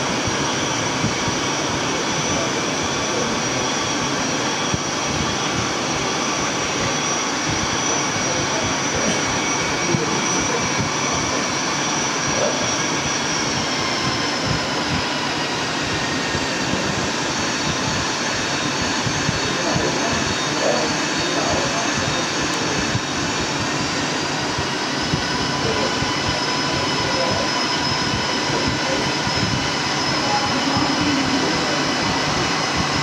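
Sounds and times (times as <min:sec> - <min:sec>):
jet engine over loudspeakers: 0:00.0 - 0:33.0.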